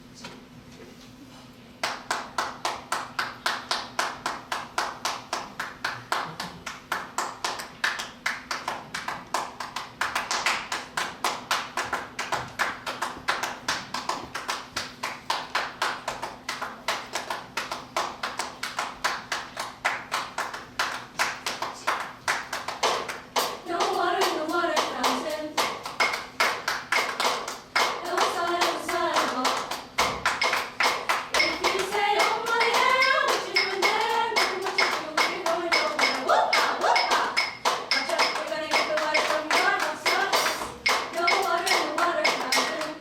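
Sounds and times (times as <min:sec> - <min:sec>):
people clapping a steady rhythm: 0:01.8 - 0:43.0.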